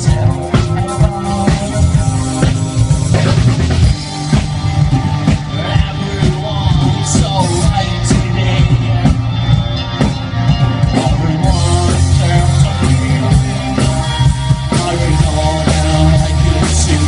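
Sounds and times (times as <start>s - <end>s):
bass line: 0.0s - 17.0s
drums: 0.0s - 17.0s
guitars: 0.0s - 17.0s
live rock band: 0.0s - 17.0s.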